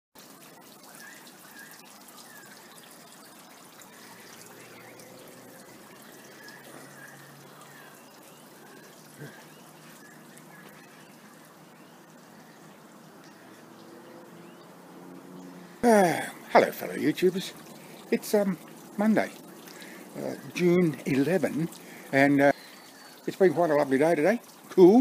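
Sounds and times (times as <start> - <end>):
outdoor background hiss: 0.2 - 25.0
small birds chirping: 0.4 - 25.0.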